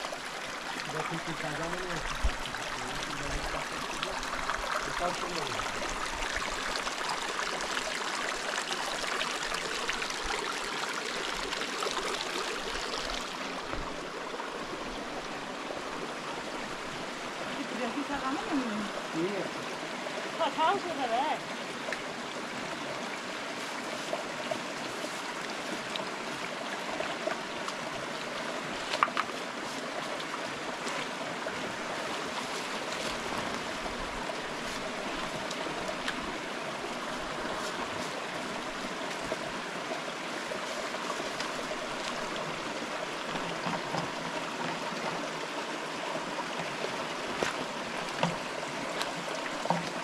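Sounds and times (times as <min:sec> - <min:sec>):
stream rushing: 0:00.0 - 0:50.0.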